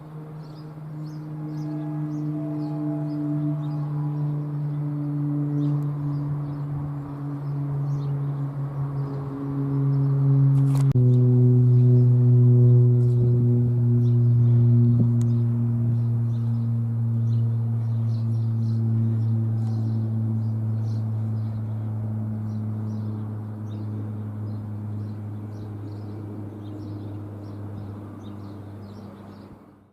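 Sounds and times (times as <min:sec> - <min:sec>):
turboprop aircraft passing overhead: 0:00.0 - 0:29.9.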